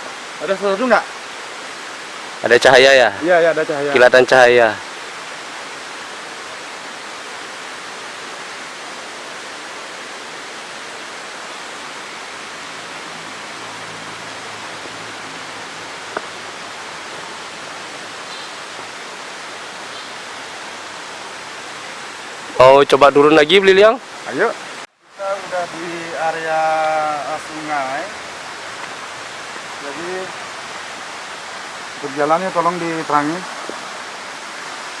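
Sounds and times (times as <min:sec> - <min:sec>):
flowing river water: 0:00.0 - 0:35.0.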